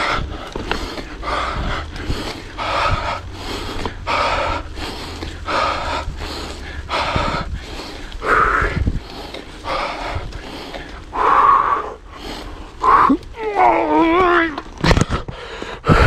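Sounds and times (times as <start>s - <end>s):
heavy panting breaths: 0.0s - 13.4s, 15.1s - 16.0s.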